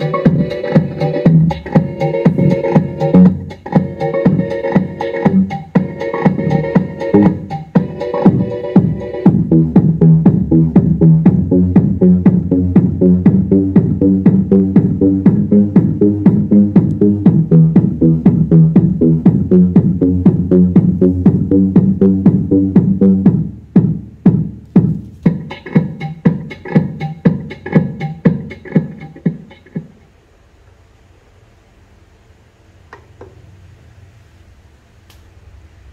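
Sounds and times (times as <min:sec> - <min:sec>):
electronic dance music: 0:00.0 - 0:30.0.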